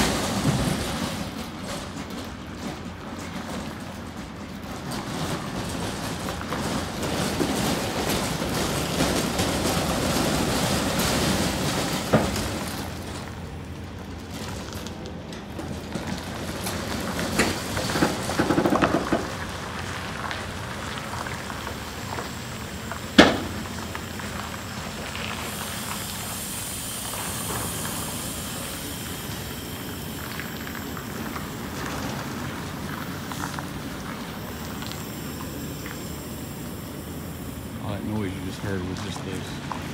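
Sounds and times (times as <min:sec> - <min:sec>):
truck tires scrubbing on pavement: 0:00.0 - 0:39.9.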